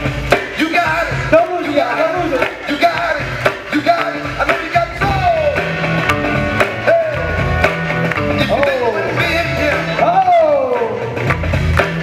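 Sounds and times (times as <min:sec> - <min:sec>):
bass line: 0:00.0 - 0:12.0
drum beat: 0:00.0 - 0:12.0.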